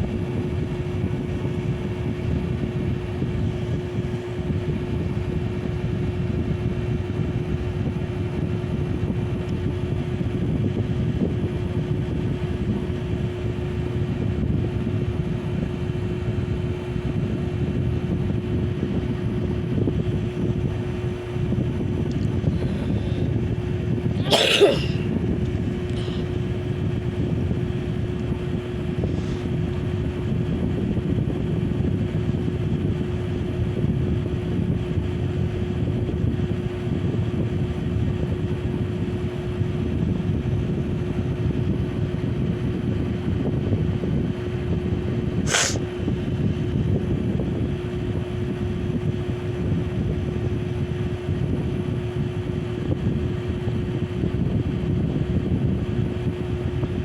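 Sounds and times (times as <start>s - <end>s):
ceiling fan whooshing: 0.0s - 57.0s
low motor hum: 0.0s - 57.0s.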